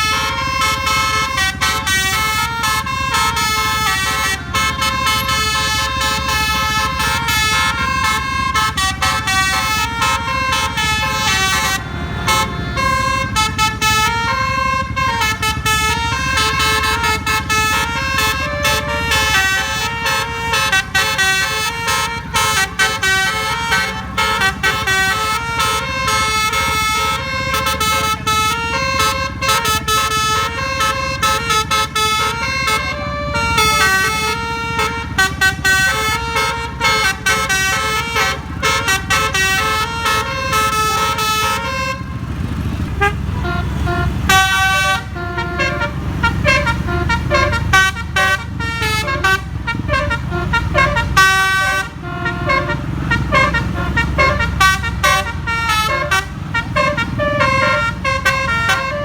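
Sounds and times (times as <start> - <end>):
engine and road rumble: 0.0 - 59.0
musical bus horn melody: 0.0 - 59.0.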